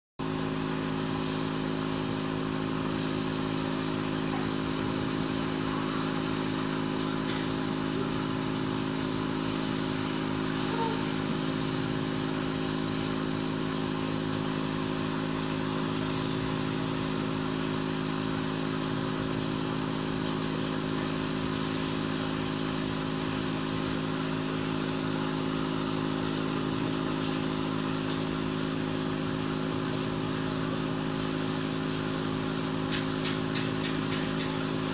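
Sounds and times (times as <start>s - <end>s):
small motor humming: 0.2s - 34.9s.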